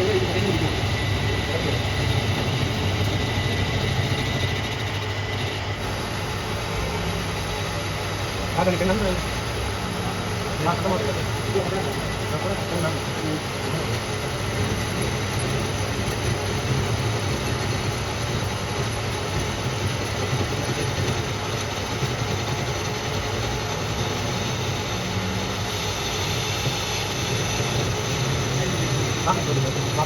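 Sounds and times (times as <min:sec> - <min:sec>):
workshop machinery running: 0:00.0 - 0:30.0.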